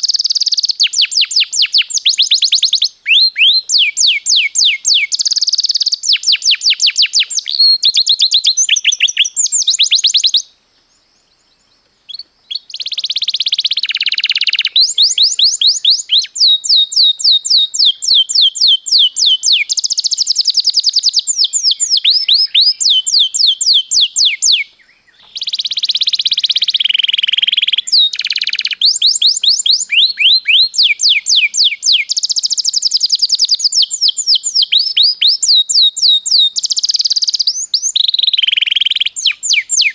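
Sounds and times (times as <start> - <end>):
canary singing trills: 0.0 - 10.5, 11.2 - 39.9.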